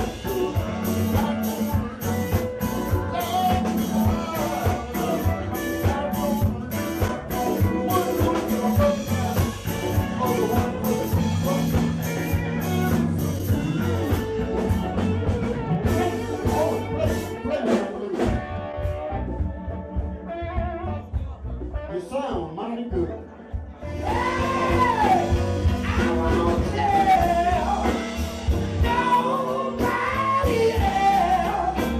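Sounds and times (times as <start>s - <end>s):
congas: 0.0s - 22.6s, 23.5s - 31.9s
drum kit: 0.0s - 31.9s
electric bass: 0.0s - 31.9s.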